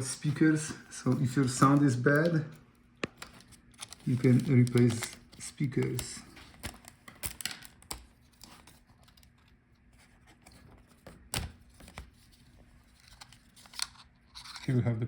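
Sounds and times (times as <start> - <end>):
rustling and handling noises: 0.0 - 14.9.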